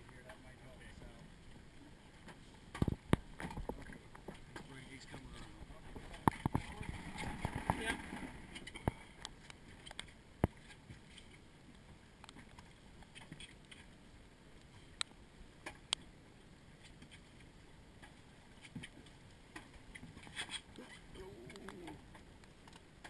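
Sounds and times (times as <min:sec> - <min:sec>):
choppy sea water by boat: 0:00.0 - 0:23.0.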